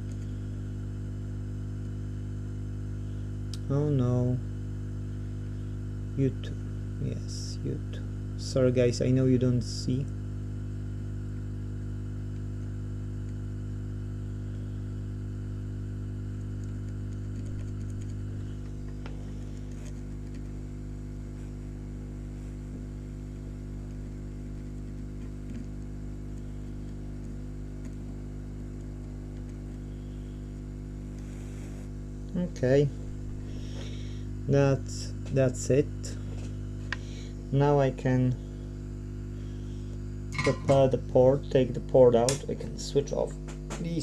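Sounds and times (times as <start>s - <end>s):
electrical hum with low buzz: 0.0s - 44.0s.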